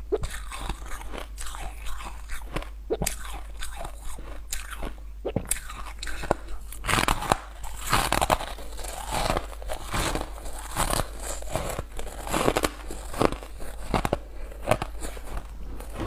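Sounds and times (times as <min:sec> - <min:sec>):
ice crunching between teeth: 0:00.1 - 0:16.0.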